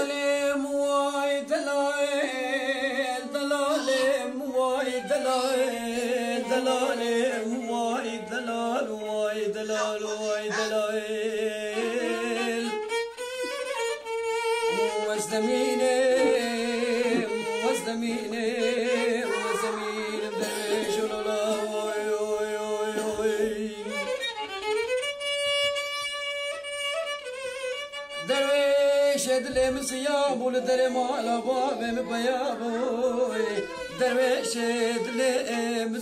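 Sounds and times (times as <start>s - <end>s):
violin folk melody: 0.0s - 36.0s.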